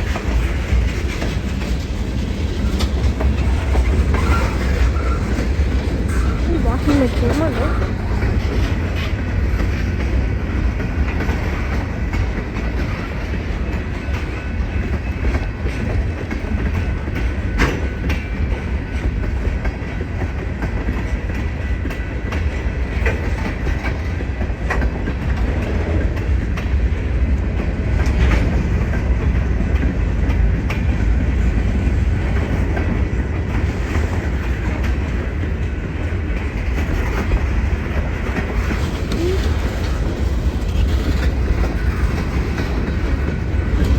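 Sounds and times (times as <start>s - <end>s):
train cars rolling on rails: 0.0s - 43.9s
wheels clicking over track: 0.0s - 43.9s.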